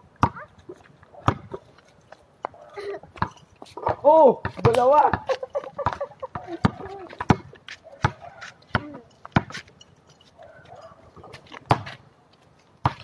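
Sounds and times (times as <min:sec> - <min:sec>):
basketball dribbling on concrete: 0:00.0 - 0:01.8, 0:02.4 - 0:09.7, 0:10.4 - 0:12.0.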